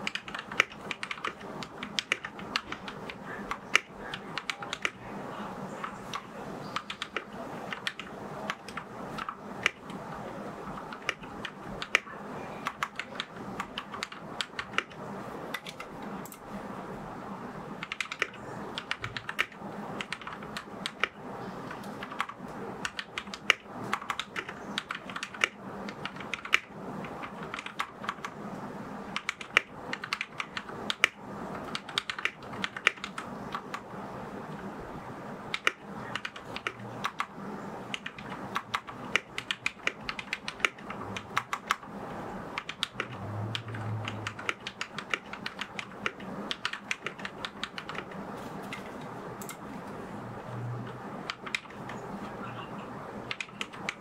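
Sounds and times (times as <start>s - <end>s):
mechanical keyboard typing: 0.0s - 16.5s, 17.8s - 28.4s, 29.0s - 34.6s, 35.4s - 52.4s, 53.2s - 54.0s.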